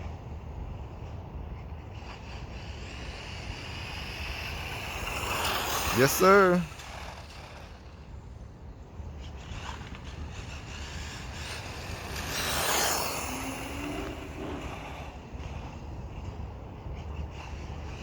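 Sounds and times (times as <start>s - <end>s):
rc truck whooshing past: 0.0s - 18.0s
wind rumble on microphone: 0.0s - 18.0s.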